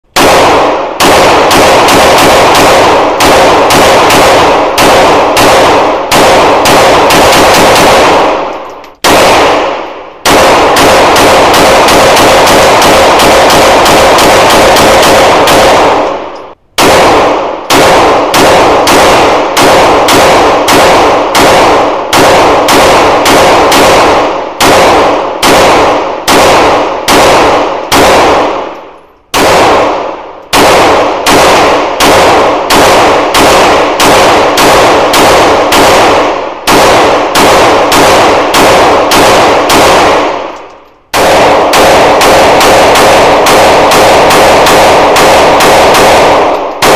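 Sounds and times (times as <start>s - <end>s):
pistol shots echoing indoors: 0.0s - 46.9s.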